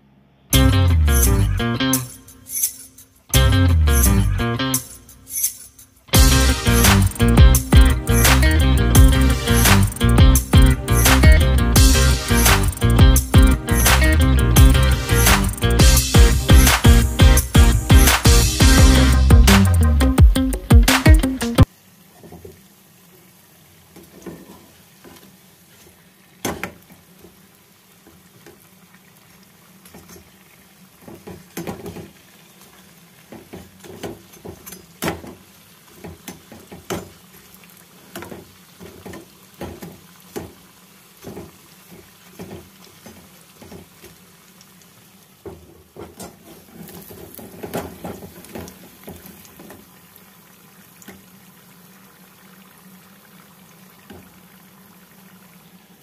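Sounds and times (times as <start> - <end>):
potatoes sizzling in hot oil: 6.1 - 19.4, 21.6 - 56.0
oil popping: 6.4 - 55.8.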